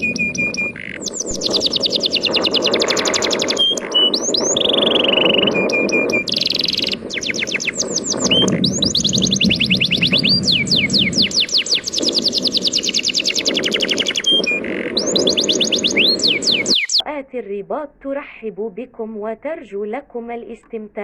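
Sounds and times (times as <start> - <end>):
songbird trilling: 0.0 - 17.0.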